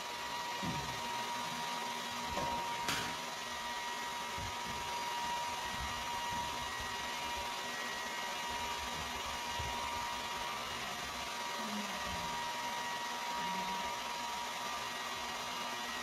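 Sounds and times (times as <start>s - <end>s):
hair dryer blowing air: 0.0s - 16.0s
hair dryer motor whine: 0.0s - 16.0s.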